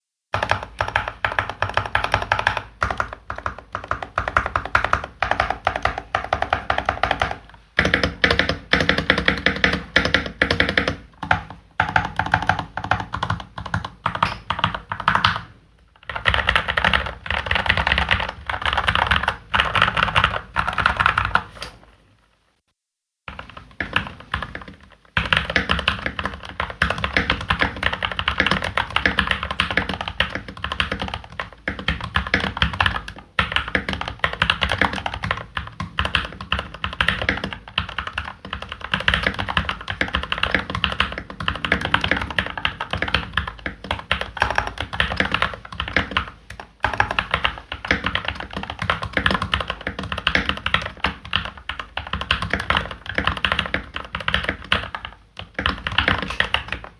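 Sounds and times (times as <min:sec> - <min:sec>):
mechanical keyboard typing: 0:00.3 - 0:21.5, 0:23.3 - 0:56.9.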